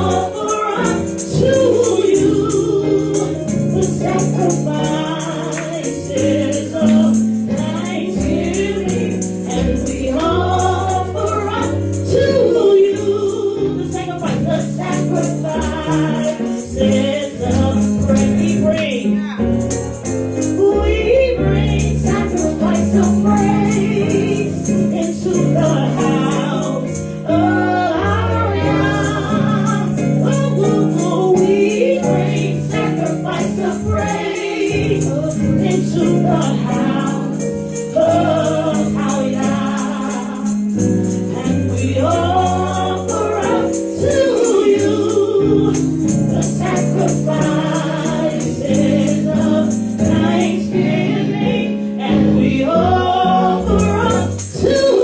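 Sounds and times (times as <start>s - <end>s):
hi-hat or tambourine beat: 0.0s - 20.8s, 21.6s - 27.8s, 28.6s - 51.0s, 53.5s - 55.0s
band with bass and keyboard: 0.0s - 51.7s
group of voices singing: 0.0s - 55.0s.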